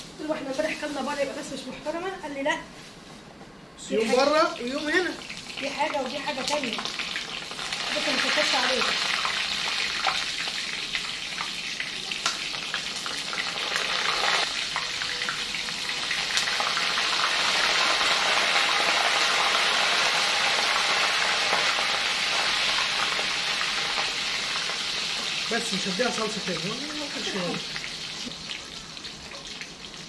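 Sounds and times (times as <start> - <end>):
oil sizzling in frying pan: 4.1 - 30.0.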